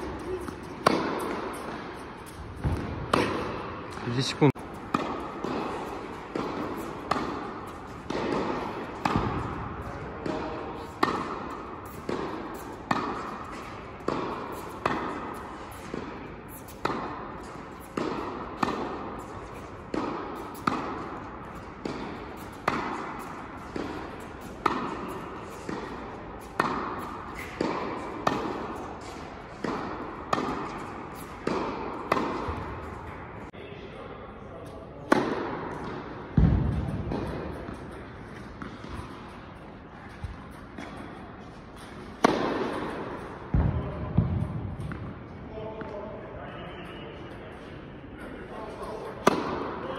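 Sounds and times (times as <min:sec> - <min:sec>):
tennis balls bouncing on court: 0:00.0 - 0:33.5, 0:35.1 - 0:45.9, 0:48.8 - 0:49.9
tennis balls struck by rackets: 0:00.0 - 0:33.5, 0:35.0 - 0:45.9, 0:48.8 - 0:49.9.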